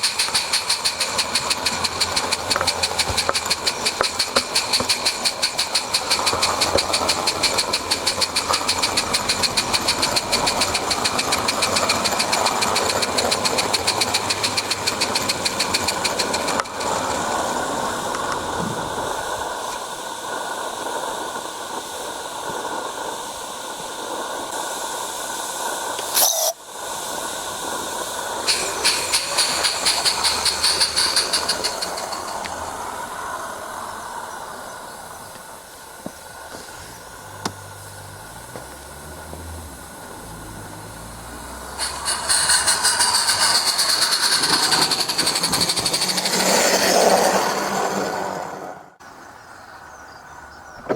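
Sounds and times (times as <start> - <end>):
steam locomotive exhaust beats: 0.0 - 49.2
steam hiss: 0.0 - 49.6.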